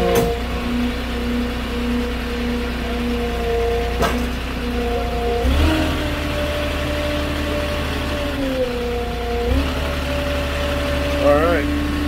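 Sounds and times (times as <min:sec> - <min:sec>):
forklift engine revving: 0:00.0 - 0:12.0.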